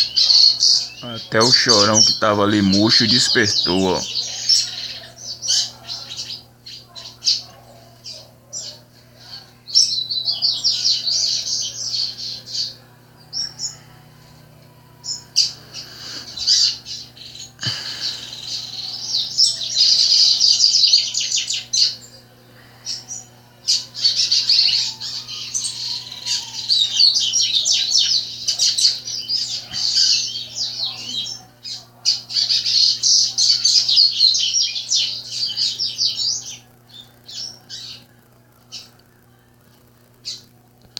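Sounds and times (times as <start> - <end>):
songbirds twittering: 0.0 - 39.2.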